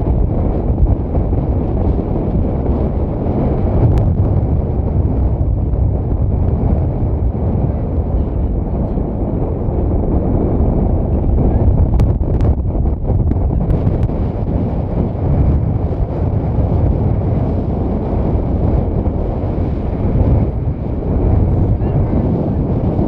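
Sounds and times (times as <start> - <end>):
volcano vent roaring: 0.0 - 23.0
wind buffeting microphone: 0.0 - 23.0.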